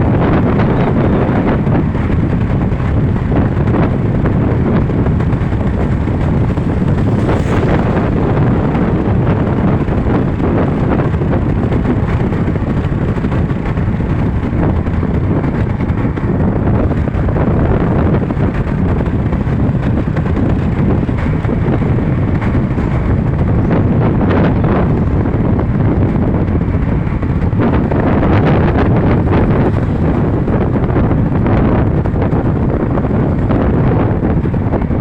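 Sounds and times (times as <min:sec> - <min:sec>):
moving vehicle rumble: 0:00.0 - 0:35.0
wind buffeting microphone: 0:00.0 - 0:35.0.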